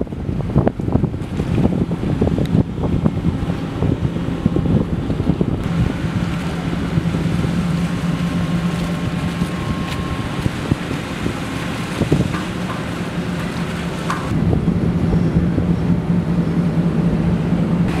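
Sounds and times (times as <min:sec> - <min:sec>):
boat engines humming: 0:00.0 - 0:18.0
wind buffeting microphone: 0:00.0 - 0:18.0.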